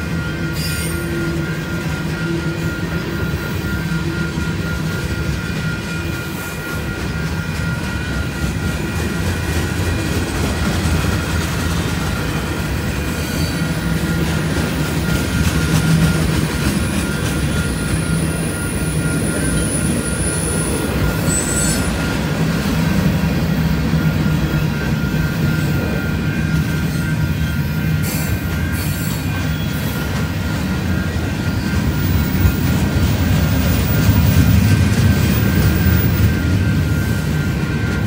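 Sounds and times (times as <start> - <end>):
crossing bell ringing: 0.0 - 38.0
high wheel squeal: 0.0 - 38.0
train wheels rumbling on rails: 0.0 - 38.0.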